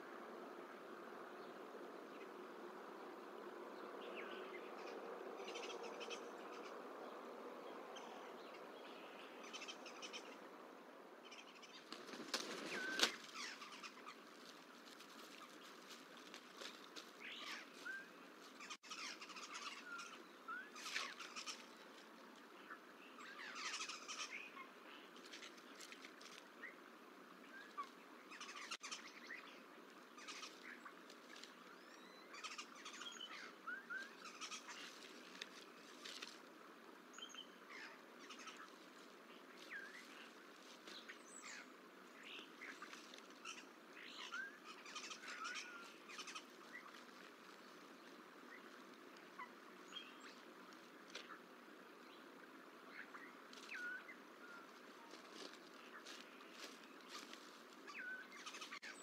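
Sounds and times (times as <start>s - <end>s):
outdoor background rush: 0.0s - 59.0s
small birds chirping: 3.8s - 10.6s, 11.2s - 59.0s.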